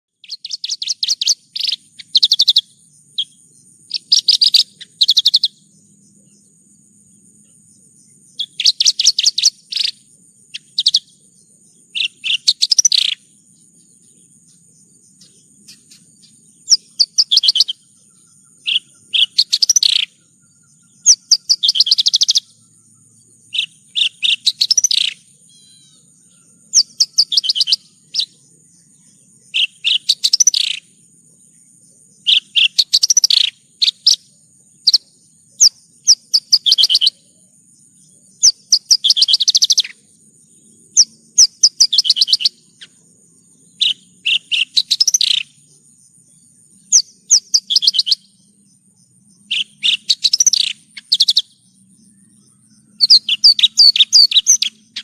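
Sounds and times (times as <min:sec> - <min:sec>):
lark singing trilled phrases: 0:00.1 - 0:06.6, 0:07.6 - 0:31.0, 0:31.9 - 0:55.0.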